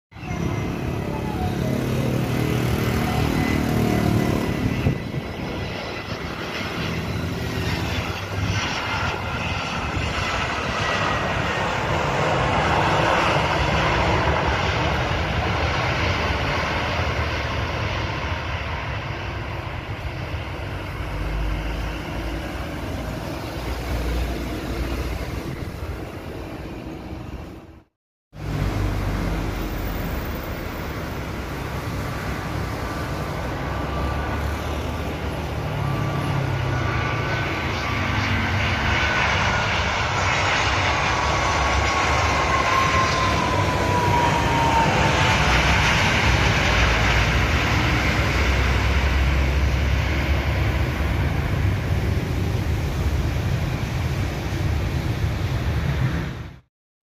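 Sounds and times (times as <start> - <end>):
jet engine roar: 0.1 - 56.7.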